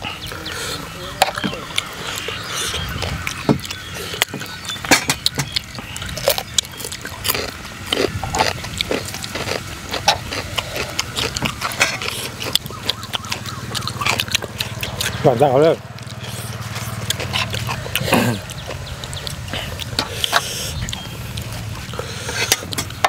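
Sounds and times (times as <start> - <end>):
chewing and lip-smacking: 0.0 - 23.0.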